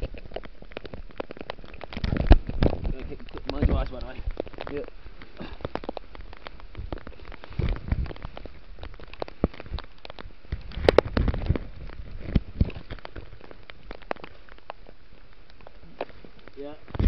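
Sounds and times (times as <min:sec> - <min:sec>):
leaves rustling against microphone: 0:00.0 - 0:17.0
rain pattering on leaves: 0:00.0 - 0:17.0.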